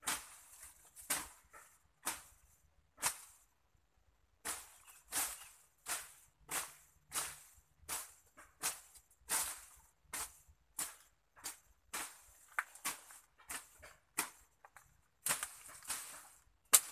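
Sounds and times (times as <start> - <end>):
machete slashing through undergrowth: 0.0 - 2.4, 4.4 - 14.6, 15.2 - 16.9.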